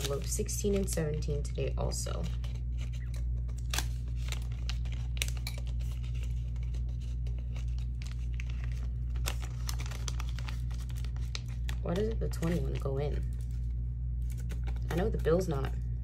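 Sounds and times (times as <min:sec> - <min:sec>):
banknotes rustling and crinkling: 0:00.0 - 0:15.8
low hum: 0:00.0 - 0:16.0.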